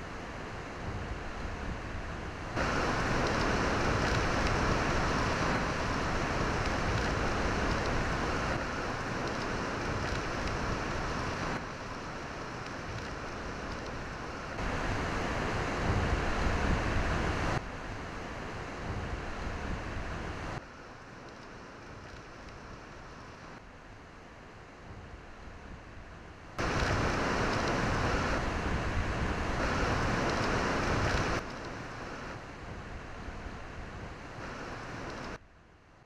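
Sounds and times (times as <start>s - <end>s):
heavy rain: 0.0s - 23.6s, 26.6s - 35.4s
strong wind: 0.0s - 35.4s.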